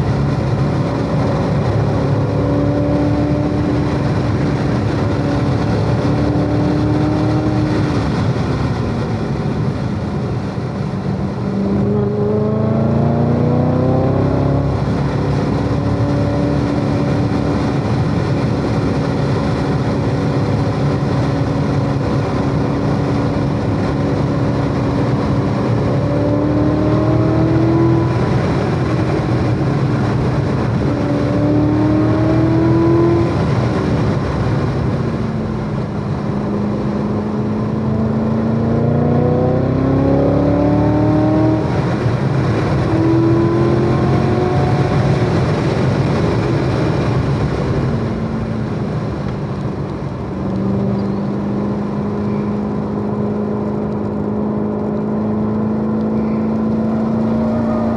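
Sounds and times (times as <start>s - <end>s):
sports car engine accelerating: 0.0s - 57.9s.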